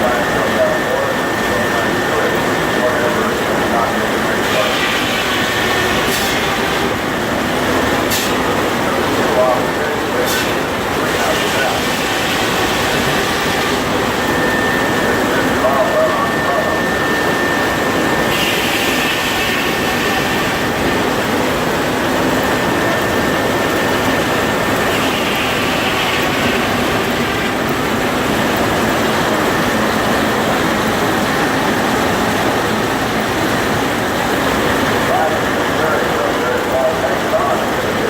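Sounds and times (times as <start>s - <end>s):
steam-powered sawmill running: 0.0s - 38.0s.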